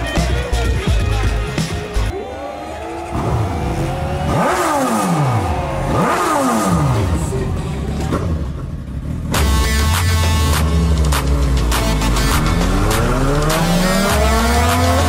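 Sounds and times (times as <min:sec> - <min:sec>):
dirt bike engine revving: 0:02.8 - 0:15.0.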